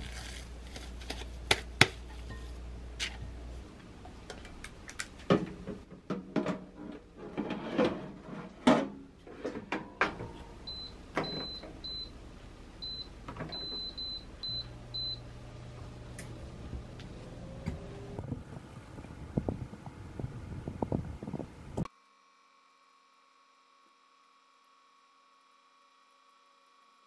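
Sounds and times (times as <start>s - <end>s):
oven humming: 0.0s - 21.9s.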